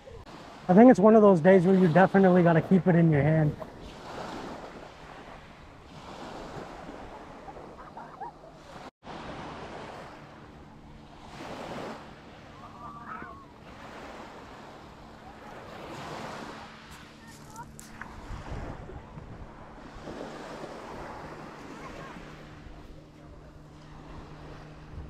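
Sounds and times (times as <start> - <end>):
small waves lapping on sand: 0.0 - 25.0.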